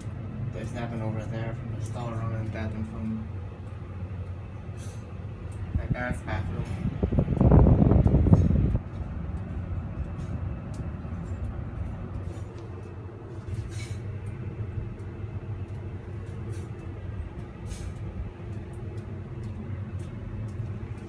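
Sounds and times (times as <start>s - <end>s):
exhaust fan motor hum: 0.0s - 21.0s.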